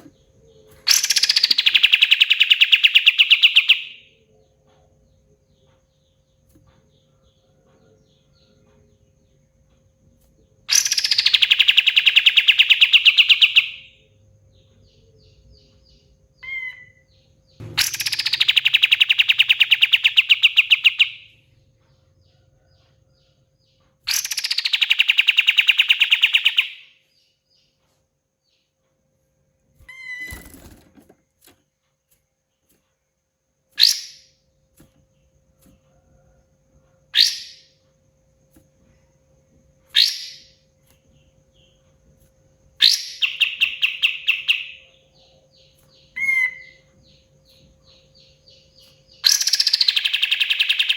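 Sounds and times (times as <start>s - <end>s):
bird singing fast rattling trills: 0.0s - 9.6s, 10.4s - 27.7s, 29.6s - 31.1s, 33.7s - 35.5s, 37.1s - 37.7s, 38.3s - 50.9s
bird chirps: 0.0s - 30.8s, 32.5s - 50.9s.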